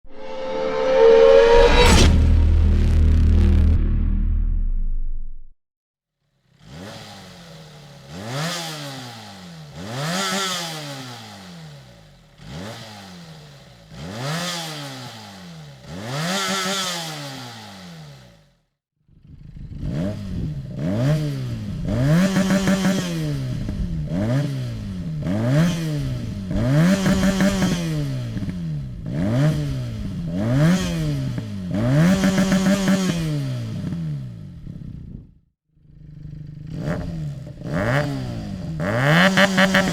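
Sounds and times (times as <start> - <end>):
motorcycle engine revving: 6.4 - 39.9.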